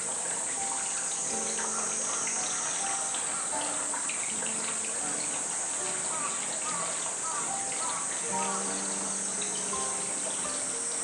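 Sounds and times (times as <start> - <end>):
high-pitched insect drone: 0.0 - 11.0
running water: 0.0 - 11.0.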